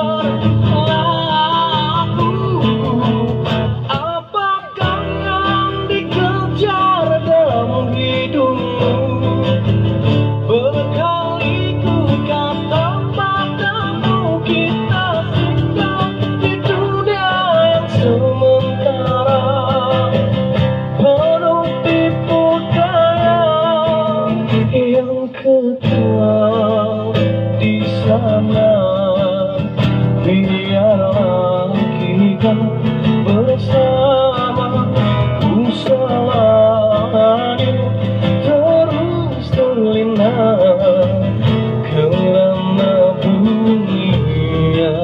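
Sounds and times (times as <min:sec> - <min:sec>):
amplified acoustic guitar strumming: 0:00.0 - 0:45.0
man singing into microphone: 0:00.0 - 0:45.0.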